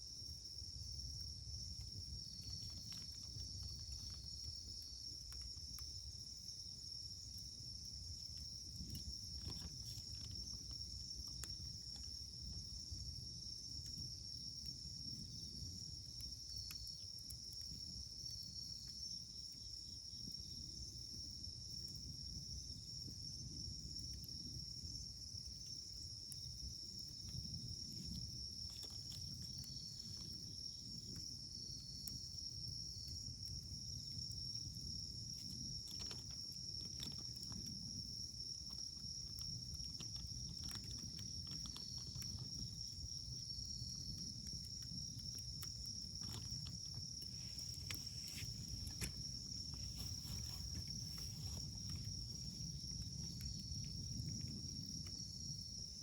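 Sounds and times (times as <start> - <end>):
insects chirring: 0.0 - 56.0
firewood crackling and popping: 0.1 - 55.6.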